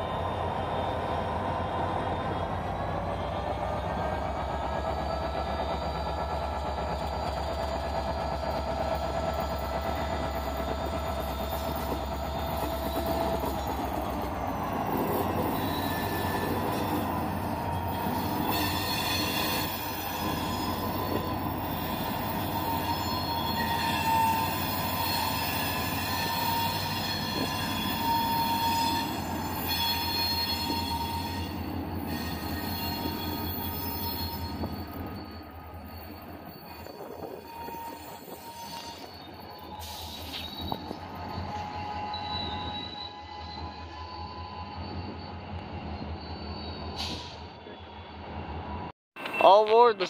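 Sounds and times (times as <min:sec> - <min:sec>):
train rumbling: 0:00.0 - 0:50.0
train wheels squealing: 0:00.0 - 0:50.0.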